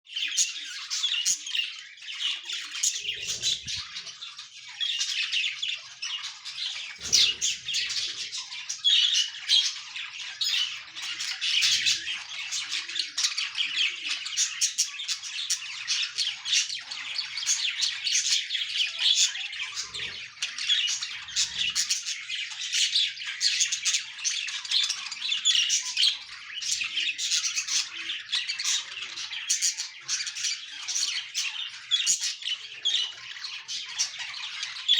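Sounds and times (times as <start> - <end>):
budgerigars chattering and squawking: 0.1 - 34.9.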